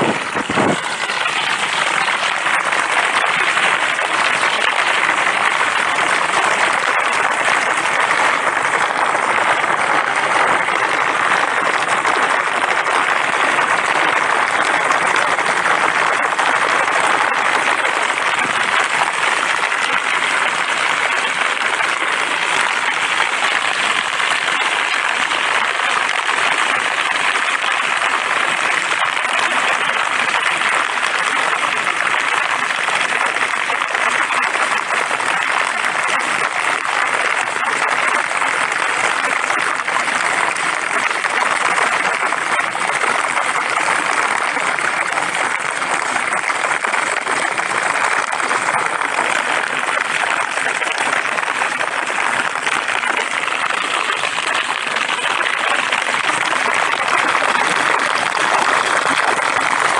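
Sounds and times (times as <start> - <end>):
water gurgling down a drain: 0.0 - 59.9.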